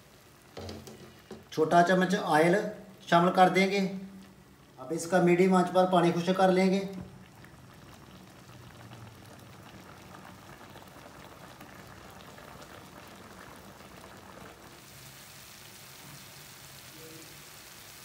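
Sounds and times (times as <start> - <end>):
gravy bubbling in a pan: 0.0 - 18.0.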